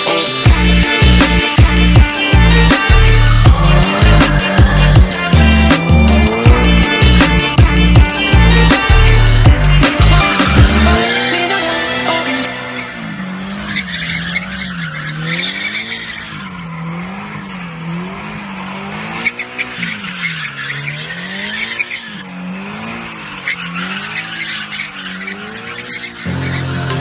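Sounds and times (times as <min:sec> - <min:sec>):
car engine revving: 0:00.4 - 0:27.0.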